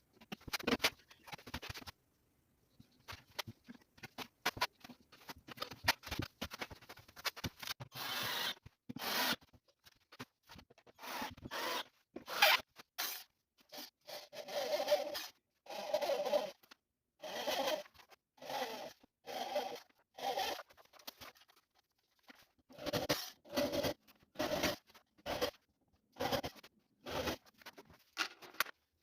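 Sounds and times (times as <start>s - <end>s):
objects rasping and scraping: 2.8s - 28.6s.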